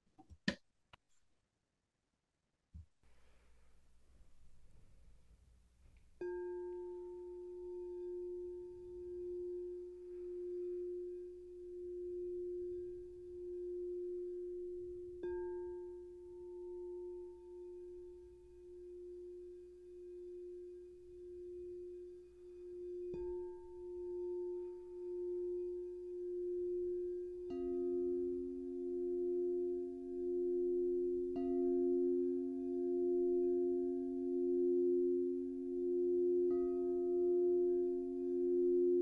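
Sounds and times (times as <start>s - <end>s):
crystal singing bowl ringing: 6.2s - 39.0s.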